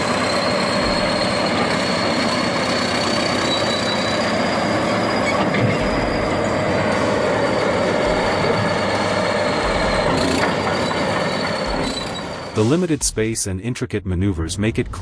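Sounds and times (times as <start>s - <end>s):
heavy machinery clatter and rumble: 0.0s - 12.8s
high-pitched squeal of steel: 0.0s - 12.9s.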